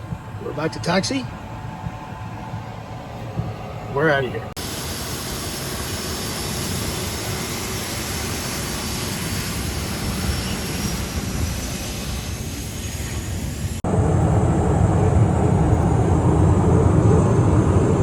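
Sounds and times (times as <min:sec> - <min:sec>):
airplane engines running: 0:00.0 - 0:18.0.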